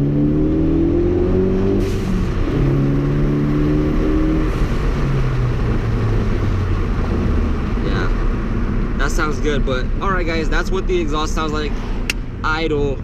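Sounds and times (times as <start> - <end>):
car engine accelerating: 0.0 - 12.4.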